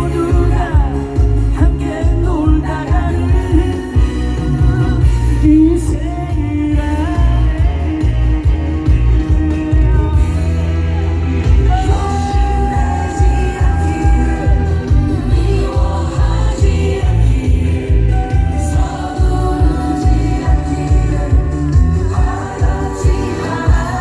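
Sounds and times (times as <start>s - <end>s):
person singing: 0.0s - 24.0s
pop-rock band playing: 0.0s - 24.0s.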